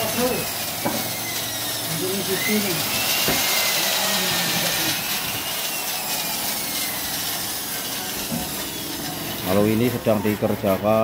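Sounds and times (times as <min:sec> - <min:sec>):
electric drill boring into wood: 0:00.0 - 0:11.0.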